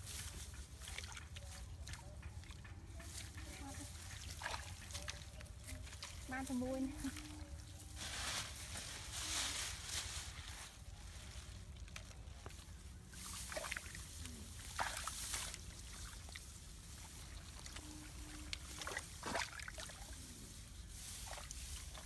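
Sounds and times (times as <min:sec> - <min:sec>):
hands sloshing in muddy water: 0:00.0 - 0:07.7, 0:11.3 - 0:22.0
mud squelching: 0:00.0 - 0:09.0, 0:09.7 - 0:22.0.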